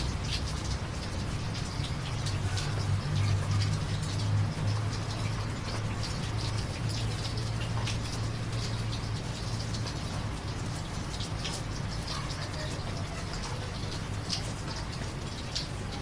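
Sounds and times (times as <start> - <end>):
raindrops pattering on surfaces: 0.0 - 16.0
steady rain: 0.0 - 16.0.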